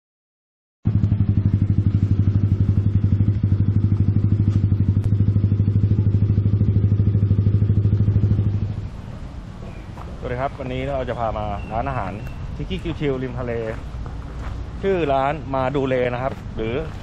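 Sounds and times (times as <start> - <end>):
engine running with pulsing hum: 0.9 - 17.0.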